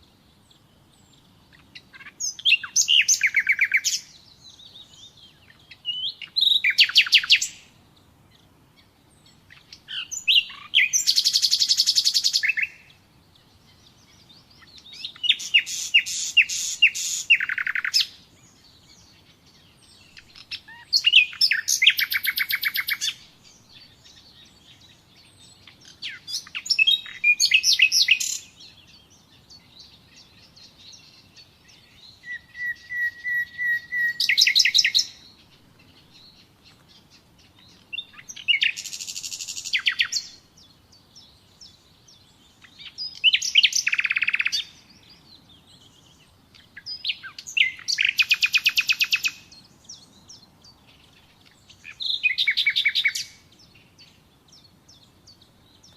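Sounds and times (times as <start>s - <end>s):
nightingale singing trills: 0.0s - 55.9s.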